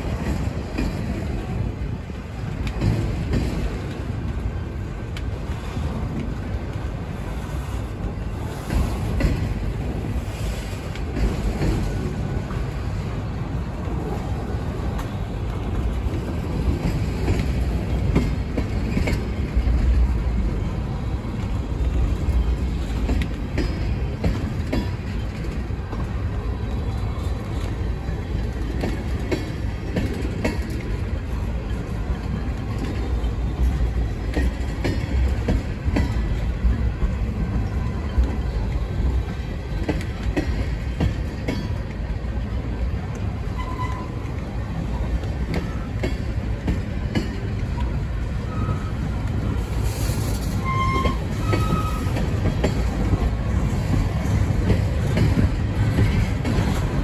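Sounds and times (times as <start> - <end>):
freight train rumbling past: 0.0 - 57.0
wheels clanking on rails: 0.0 - 57.0.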